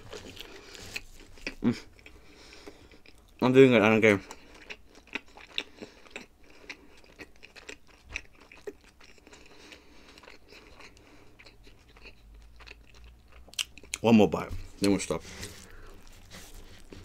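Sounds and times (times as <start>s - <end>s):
person chewing food: 0.0s - 3.4s, 4.2s - 14.0s, 14.6s - 17.0s.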